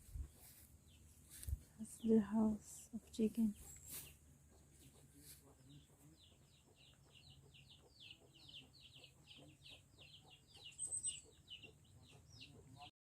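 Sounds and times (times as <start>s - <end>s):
chicks peeping: 0.0s - 2.2s, 3.4s - 12.9s.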